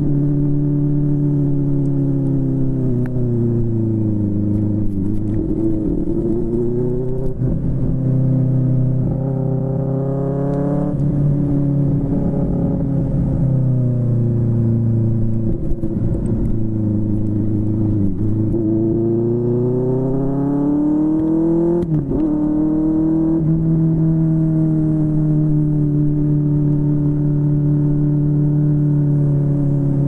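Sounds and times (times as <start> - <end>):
motorcycle engine revving: 0.0 - 13.4, 14.6 - 30.0.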